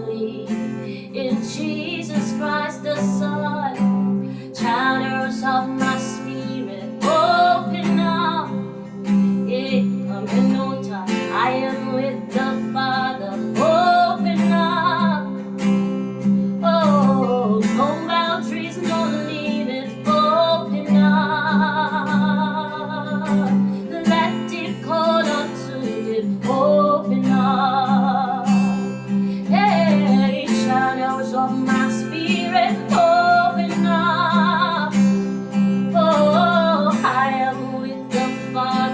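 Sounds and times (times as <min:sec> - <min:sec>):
acoustic guitar strumming: 0:00.0 - 0:38.9
person singing with vibrato: 0:00.0 - 0:38.9.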